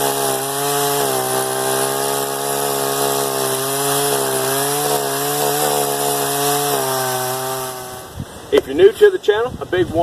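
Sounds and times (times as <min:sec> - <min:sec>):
chainsaw engine running: 0:00.0 - 0:08.6.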